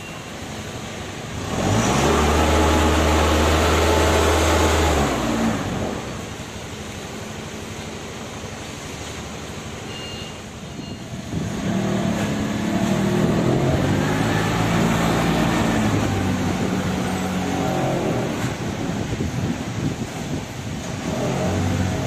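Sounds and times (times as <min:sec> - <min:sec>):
forklift engine revving: 0:00.6 - 0:07.6, 0:11.0 - 0:22.0.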